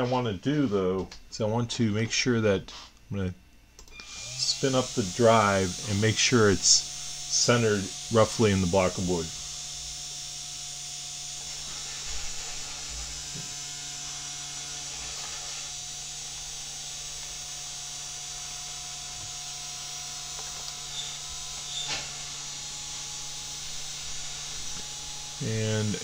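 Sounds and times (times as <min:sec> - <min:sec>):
steady electrical hum: 0:00.0 - 0:26.0
stepper motors whirring: 0:03.8 - 0:26.0.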